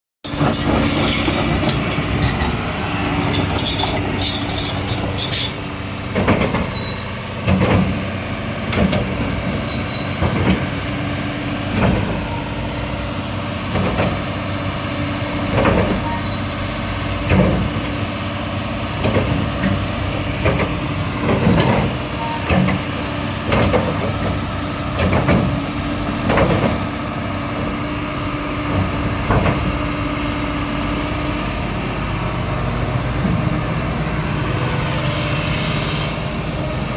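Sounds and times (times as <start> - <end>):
excavator diesel engine running: 0.3 - 36.9.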